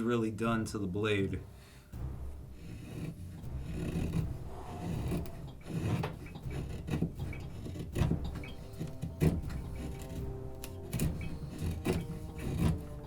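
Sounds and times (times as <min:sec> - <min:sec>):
knife scraping wood: 0:02.4 - 0:13.0.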